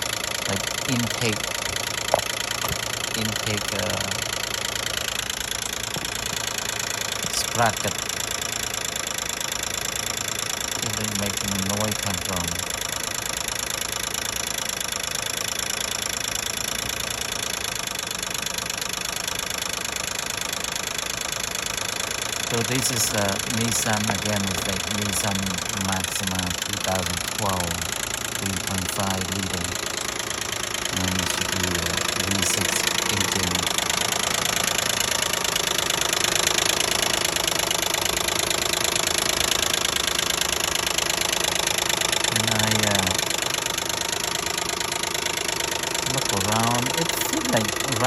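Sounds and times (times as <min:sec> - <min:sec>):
engine rattling and knocking: 0:00.0 - 0:48.0.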